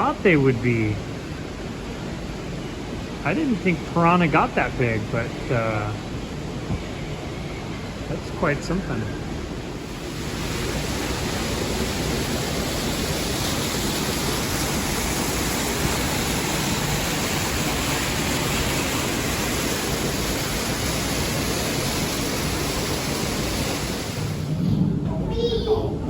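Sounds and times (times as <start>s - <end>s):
rush of falling water: 0.0s - 6.8s, 7.8s - 24.7s.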